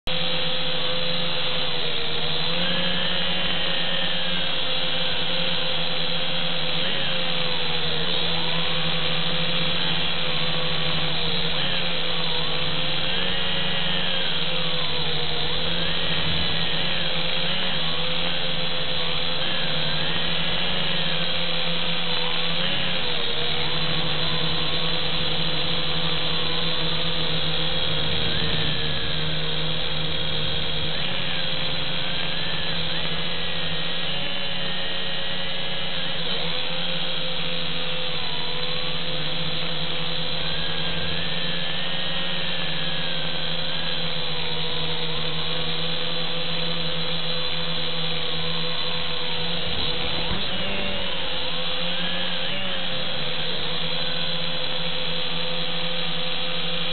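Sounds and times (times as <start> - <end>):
quadcopter propellers whining: 0.0 - 56.9.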